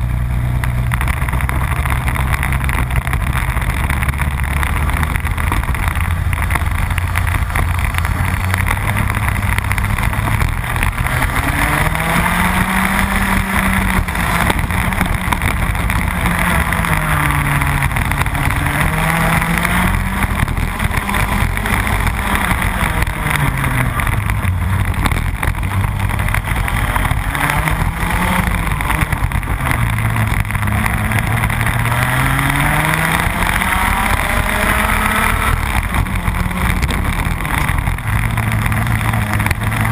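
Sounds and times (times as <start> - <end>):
kart engine accelerating and slowing: 0.0 - 39.9.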